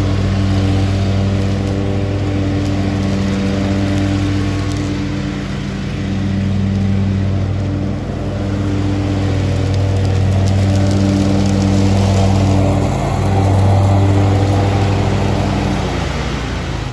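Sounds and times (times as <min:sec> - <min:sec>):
lawn mower engine running: 0:00.0 - 0:16.9.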